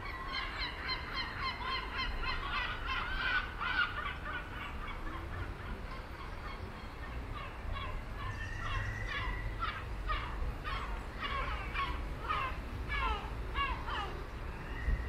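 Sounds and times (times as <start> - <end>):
many birds chattering: 0.0 - 15.0.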